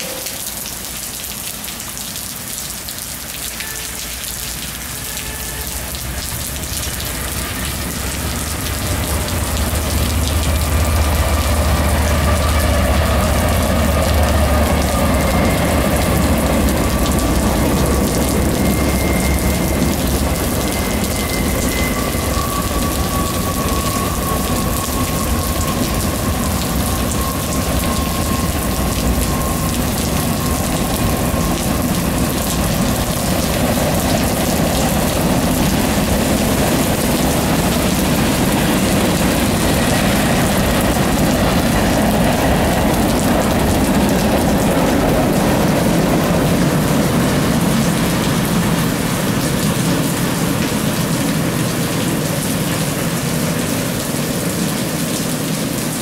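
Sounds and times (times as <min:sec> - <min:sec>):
locomotive engine drone: 0:00.0 - 0:56.0
rain hissing: 0:00.0 - 0:56.0
train wheels on rail: 0:02.8 - 0:56.0
faint high whine: 0:03.4 - 0:50.9.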